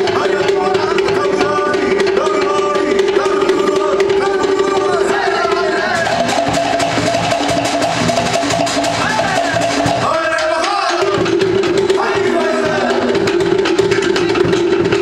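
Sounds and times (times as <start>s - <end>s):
fast slit log drumming: 0.0s - 15.0s.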